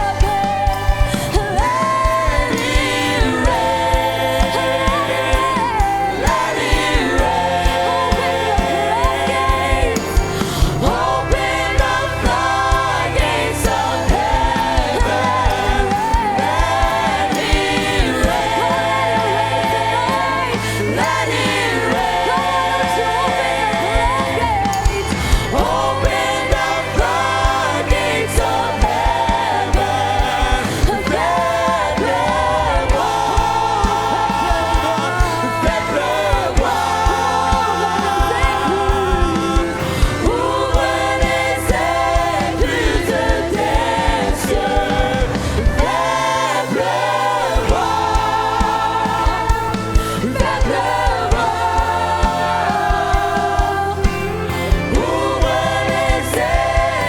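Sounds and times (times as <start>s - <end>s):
choir singing: 0.0s - 57.0s
live band with bass and drums: 0.0s - 57.0s.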